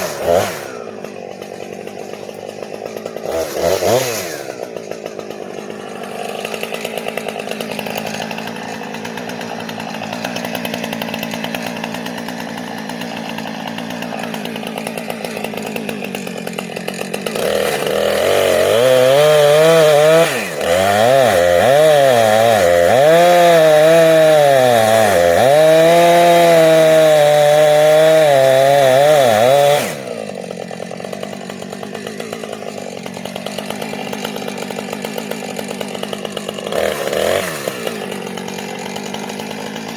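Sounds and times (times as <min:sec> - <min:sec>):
chainsaw cutting into tree: 0:00.0 - 0:39.9.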